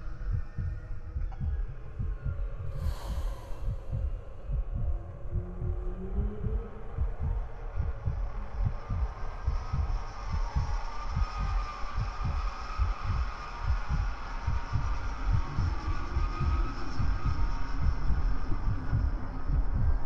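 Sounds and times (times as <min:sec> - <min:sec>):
low electronic pulse: 0:00.0 - 0:20.0.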